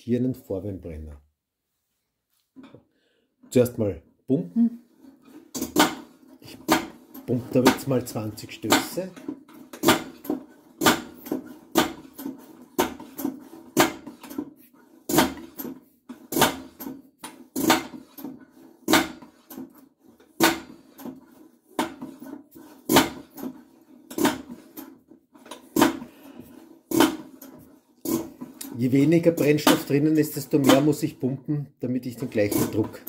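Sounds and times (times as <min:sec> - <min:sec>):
stove hand pump strokes: 0:04.8 - 0:31.2, 0:32.0 - 0:33.0.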